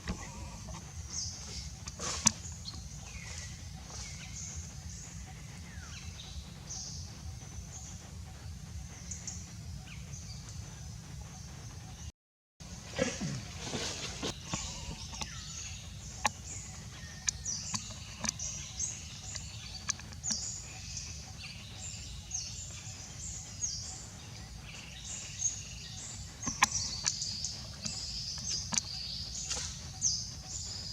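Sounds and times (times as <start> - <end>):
low background rumble: 0.0 - 30.9
songbirds chirping and singing: 0.0 - 30.9.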